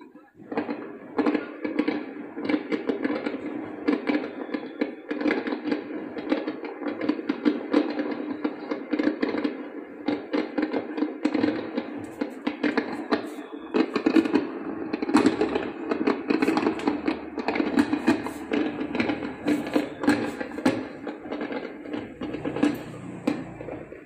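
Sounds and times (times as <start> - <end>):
fireworks crackling through a tv speaker: 0.0 - 24.0.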